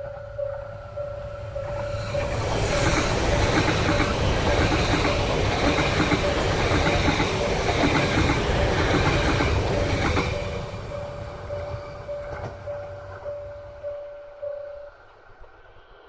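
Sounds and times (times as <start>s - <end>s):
train passing close by: 0.0s - 16.0s.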